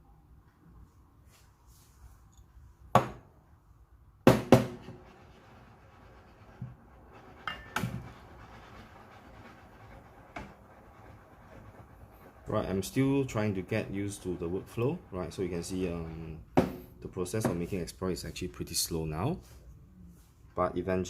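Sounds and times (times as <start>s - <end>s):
faint room noise: 0.0s - 21.0s.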